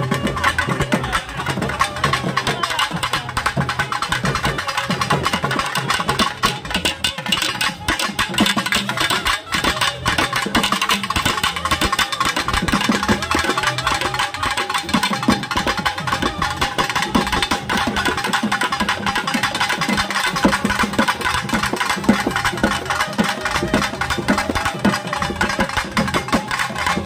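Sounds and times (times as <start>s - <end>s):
fast barrel drum strokes: 0.0s - 27.0s.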